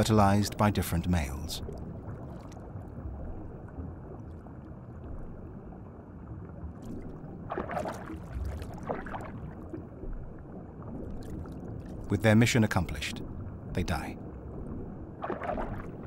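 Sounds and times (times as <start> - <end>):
muffled underwater flowing water: 0.0 - 16.0
water gurgles: 0.0 - 16.0.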